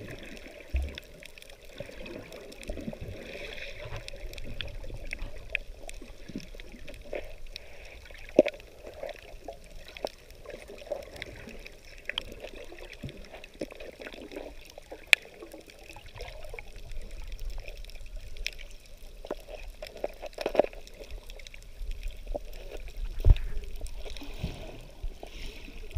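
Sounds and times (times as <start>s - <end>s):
underwater water noise: 0.0s - 25.9s.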